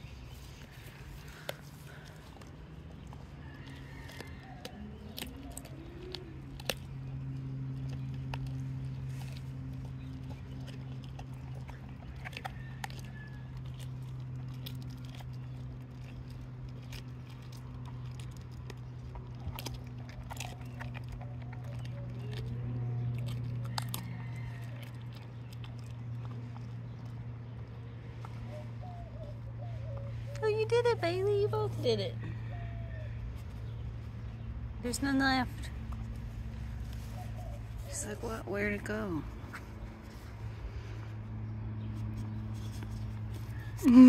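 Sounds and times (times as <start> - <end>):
dog chewing bone crunches: 0.0 - 44.0
low hum: 0.0 - 44.0.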